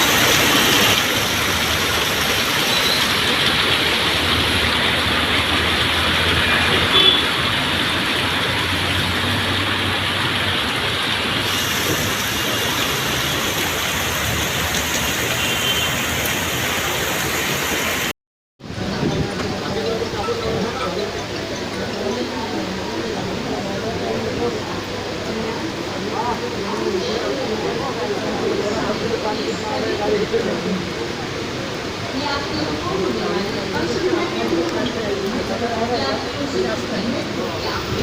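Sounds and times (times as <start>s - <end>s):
rain on wet streets: 0.0s - 38.0s
traffic: 0.0s - 38.0s.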